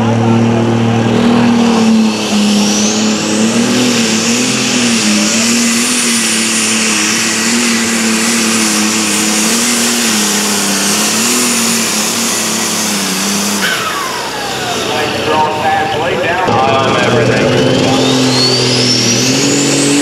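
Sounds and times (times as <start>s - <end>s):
engine at full throttle: 0.0s - 20.0s
high thin whine: 0.2s - 20.0s.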